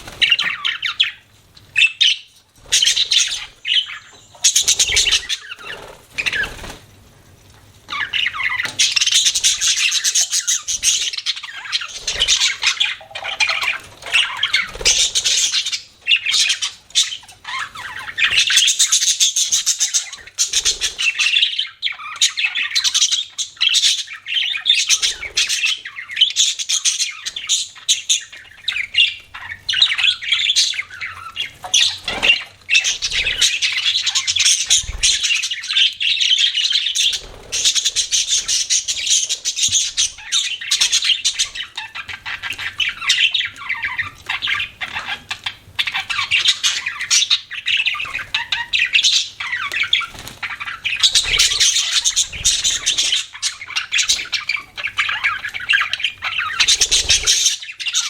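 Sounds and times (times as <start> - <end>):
budgerigars chattering and chirping: 0.0 - 6.8, 7.9 - 58.0.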